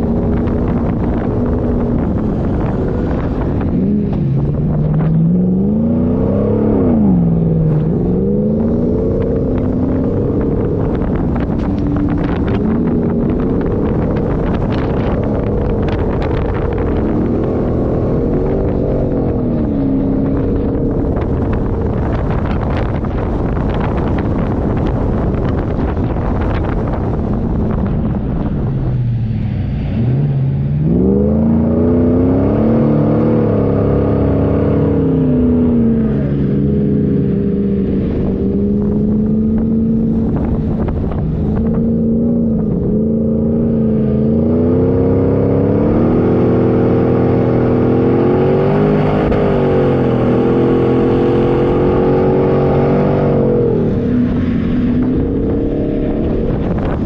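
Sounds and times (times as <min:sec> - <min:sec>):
engine revving: 0:00.0 - 0:57.0.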